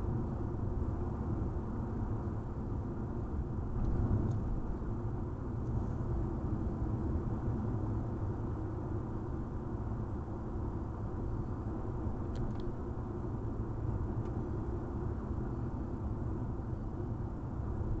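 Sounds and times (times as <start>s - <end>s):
car driving rumble inside cabin: 0.1s - 18.0s.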